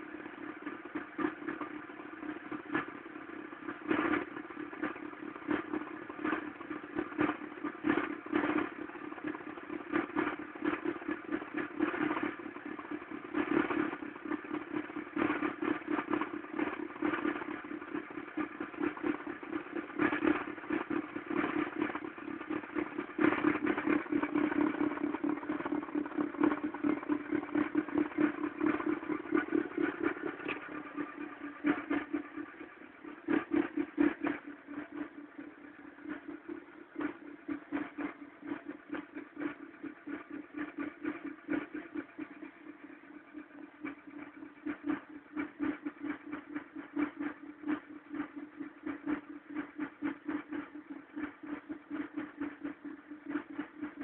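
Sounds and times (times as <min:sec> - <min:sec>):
rough clattering car engine: 0:00.2 - 0:54.0.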